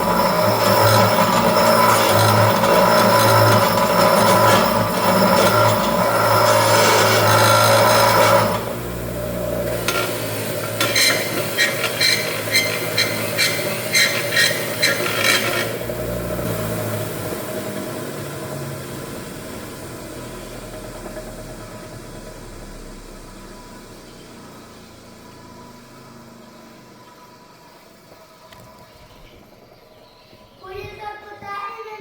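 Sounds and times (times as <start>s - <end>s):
power tool running: 0.0s - 28.9s.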